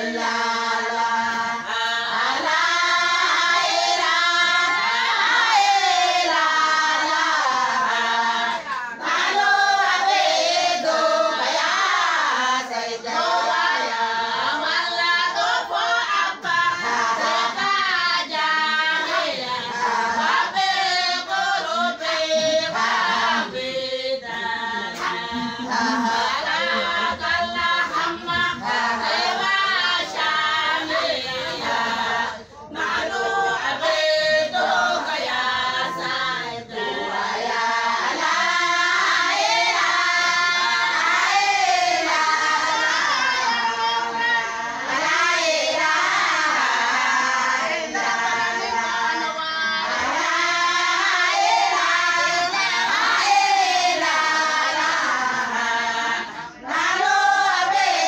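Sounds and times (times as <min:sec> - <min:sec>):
women singing together: 0:00.0 - 0:58.0.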